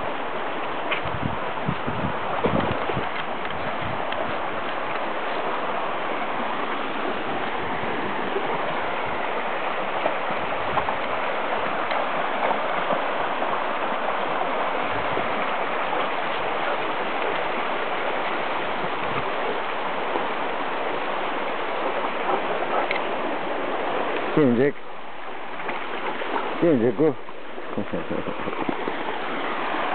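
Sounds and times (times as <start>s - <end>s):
stream running over stones: 0.0s - 29.9s.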